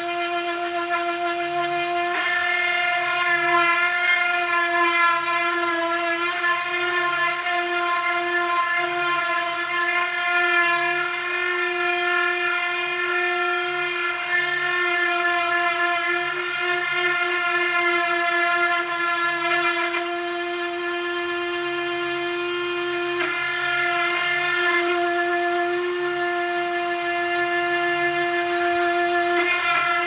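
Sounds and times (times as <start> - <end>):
power sander on wood: 0.0 - 30.0.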